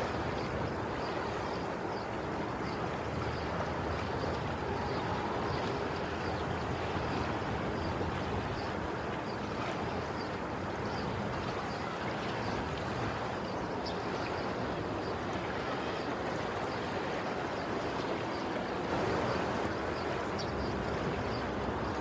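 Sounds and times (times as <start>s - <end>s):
ocean waves washing in: 0.0s - 22.0s.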